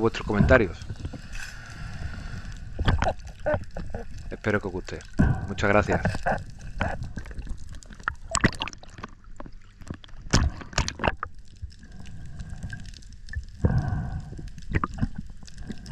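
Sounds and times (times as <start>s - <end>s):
underwater gurgling water: 0.0s - 15.9s.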